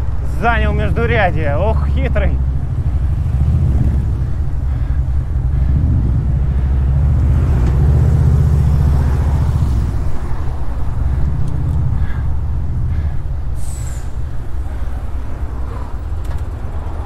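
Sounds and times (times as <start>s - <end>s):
car traffic noise: 0.0s - 17.0s
wind buffeting microphone: 2.4s - 17.0s.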